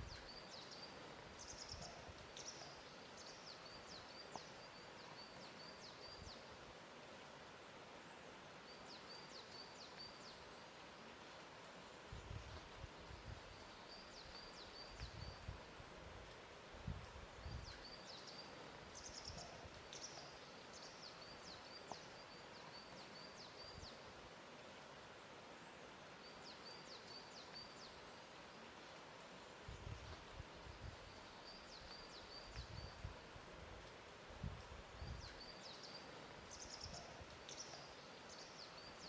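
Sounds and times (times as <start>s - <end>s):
soft steady hiss: 0.0s - 39.0s.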